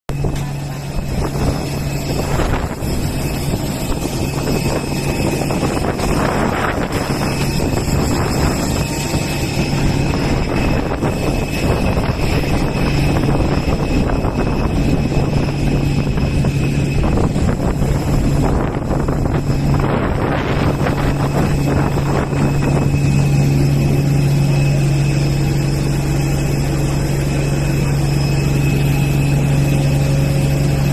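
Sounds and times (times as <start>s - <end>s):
aircraft systems humming: 0.1s - 30.9s
high whining tones: 0.1s - 30.9s.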